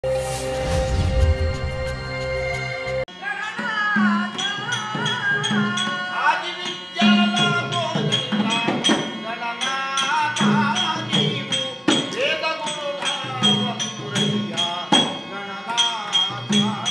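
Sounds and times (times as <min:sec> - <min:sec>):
sharp percussion strikes: 0:00.0 - 0:16.9
person singing wavering melody: 0:01.7 - 0:16.9.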